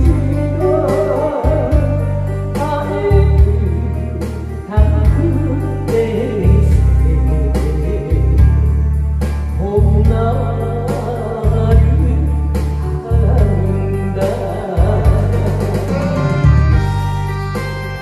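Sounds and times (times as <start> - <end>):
woman singing into microphone: 0.0 - 8.8, 9.5 - 16.7
backing track with heavy bass: 0.0 - 18.0.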